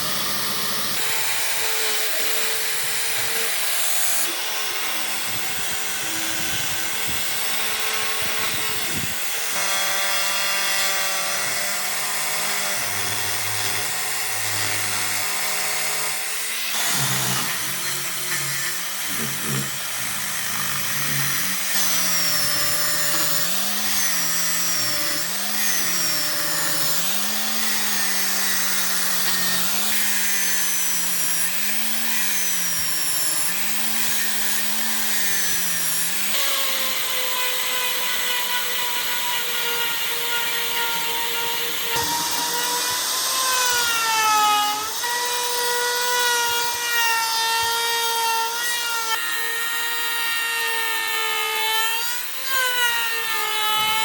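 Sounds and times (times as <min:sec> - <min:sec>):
electric power tool cutting wood: 0:00.0 - 0:54.0.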